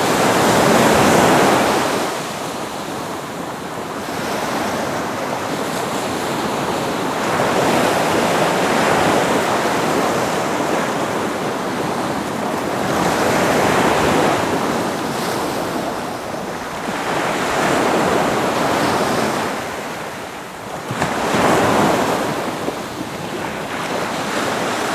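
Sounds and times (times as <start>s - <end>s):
ocean waves breaking: 0.0s - 24.9s.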